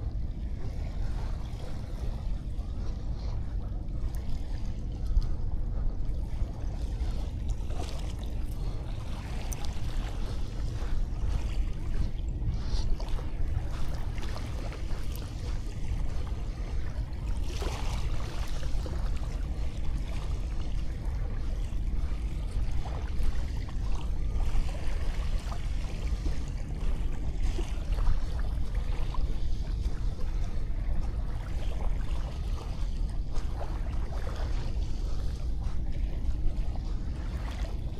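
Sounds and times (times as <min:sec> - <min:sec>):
low rumble: 0:00.0 - 0:37.9.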